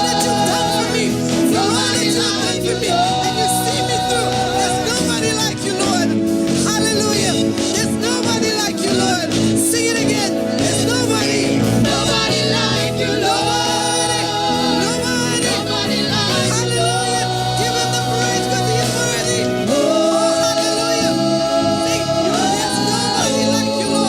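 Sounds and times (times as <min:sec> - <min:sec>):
group singing gospel song: 0:00.0 - 0:24.0
instrumental backing: 0:00.0 - 0:24.0.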